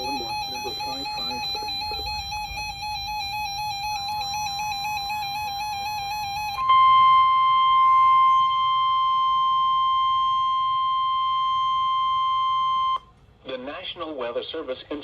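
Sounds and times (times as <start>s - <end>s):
steady warning alarm beep: 0.0s - 13.1s.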